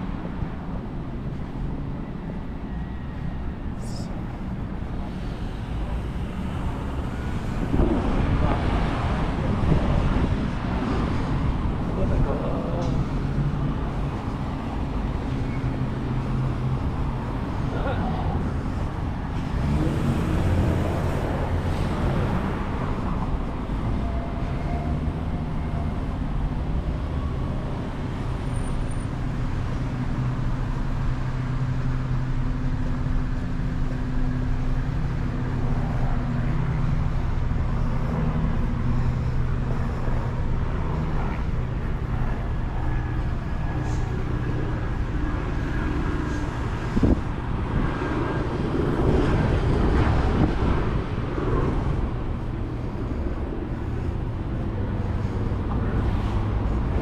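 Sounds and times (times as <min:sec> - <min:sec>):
cars driving past: 0:00.0 - 0:57.0
low engine hum: 0:00.0 - 0:57.0.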